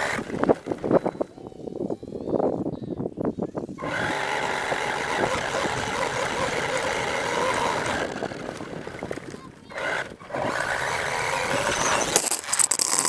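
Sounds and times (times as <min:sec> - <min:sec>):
toy truck motor running: 0:00.0 - 0:02.4, 0:03.6 - 0:13.0.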